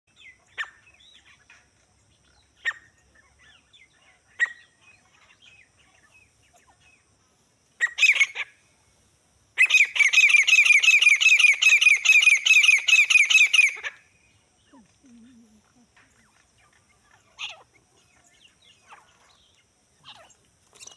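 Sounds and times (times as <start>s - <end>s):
francolin calling: 2.3s - 7.1s, 7.8s - 8.7s, 9.6s - 20.9s.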